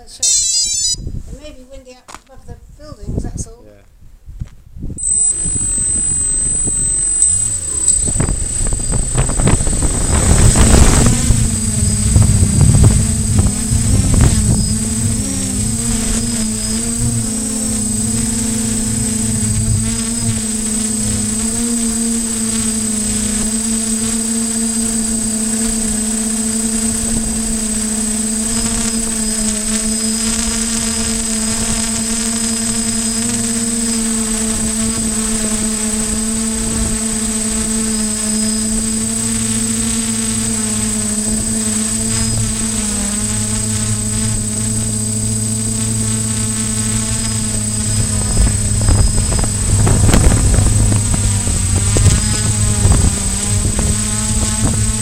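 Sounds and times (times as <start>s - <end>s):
wind buffeting microphone: 2.4s - 26.0s, 34.4s - 55.0s
drone propellers humming: 5.0s - 55.0s.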